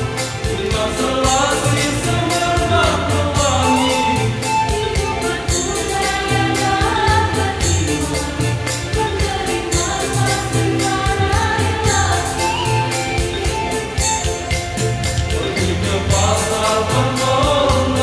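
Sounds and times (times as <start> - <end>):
accompaniment with steady beat: 0.0 - 18.0
mixed choir singing in harmony: 0.0 - 18.0.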